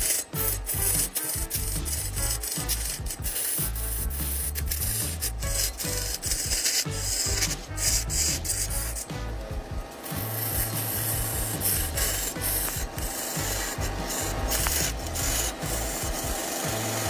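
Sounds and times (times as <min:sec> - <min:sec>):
wood lathe tool cutting log: 0:00.0 - 0:17.0.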